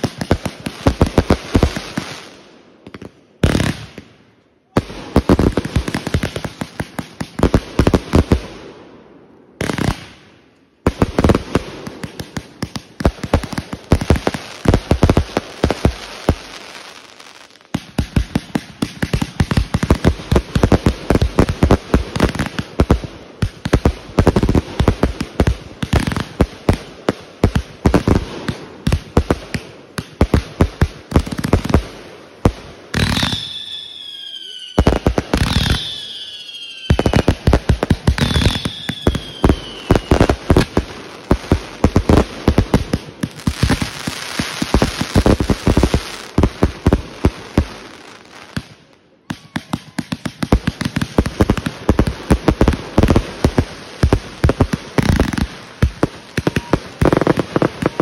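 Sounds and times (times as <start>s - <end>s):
fireworks bangs and pops: 0.0s - 8.8s, 9.6s - 58.0s
fireworks crackling: 0.0s - 8.8s, 9.5s - 58.0s
whistling fireworks: 0.0s - 58.0s.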